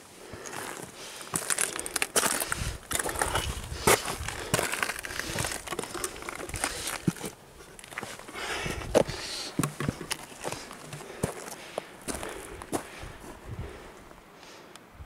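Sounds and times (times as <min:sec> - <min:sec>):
boots on gravel and rock: 0:00.0 - 0:13.4.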